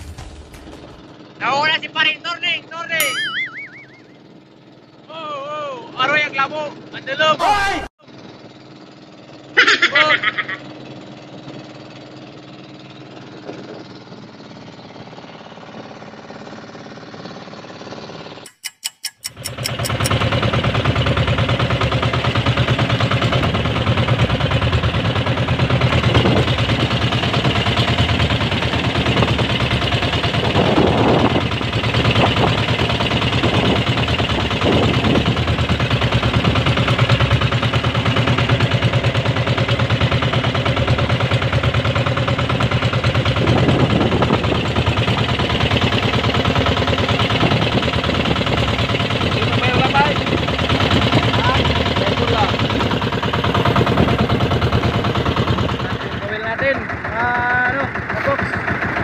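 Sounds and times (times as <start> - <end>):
boat engine running: 2.8 - 7.3, 8.0 - 59.0.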